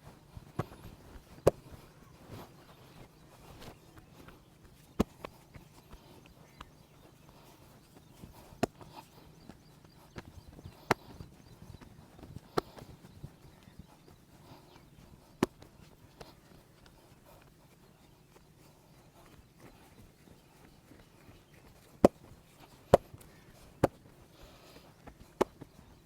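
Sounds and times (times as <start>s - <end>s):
soft massage taps: 0.3s - 24.2s, 24.9s - 25.9s.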